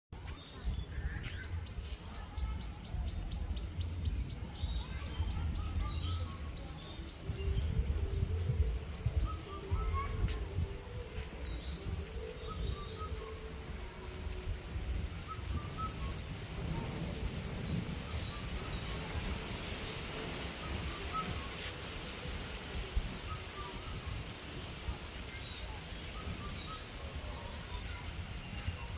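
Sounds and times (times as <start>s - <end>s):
birds chirping: 0.2s - 28.9s
wind on microphone: 0.2s - 28.9s.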